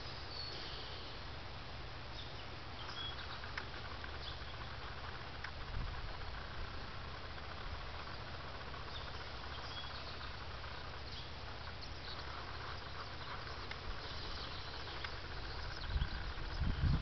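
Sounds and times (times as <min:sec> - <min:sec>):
wind rumble on microphone: 0:03.1 - 0:17.0.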